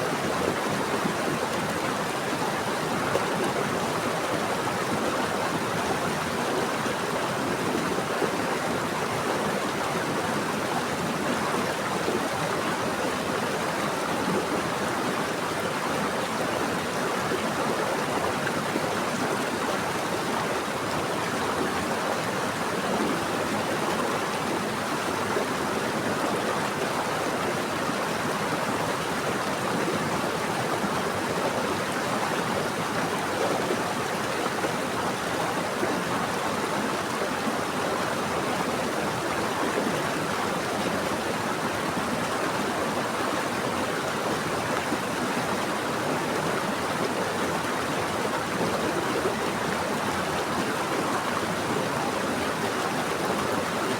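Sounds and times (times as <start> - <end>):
stream flowing over rocks: 0.0 - 53.9.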